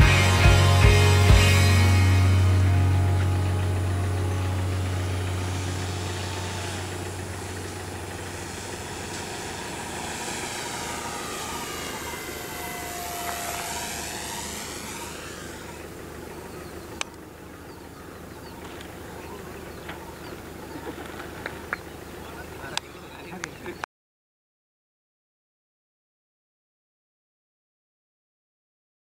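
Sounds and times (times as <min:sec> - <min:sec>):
drone propeller whine: 0:00.0 - 0:23.2.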